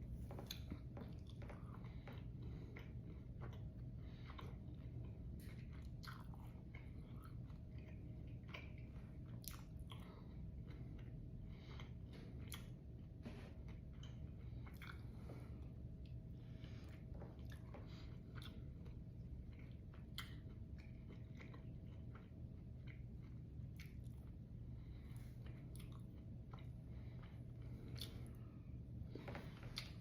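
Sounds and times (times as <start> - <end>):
steady low hum: 0.0 - 30.0
chewing crunches: 0.2 - 28.5.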